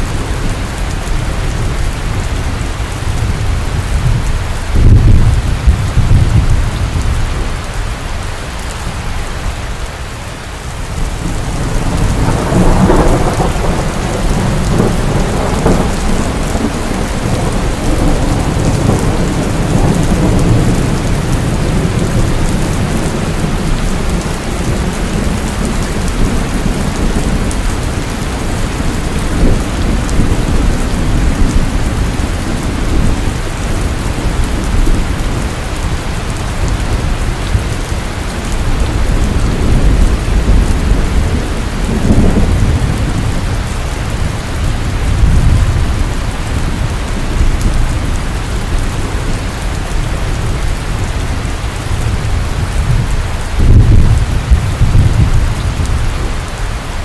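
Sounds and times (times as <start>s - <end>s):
rolling thunder: 0.0s - 7.5s, 10.8s - 56.6s
steady rain: 0.0s - 57.0s.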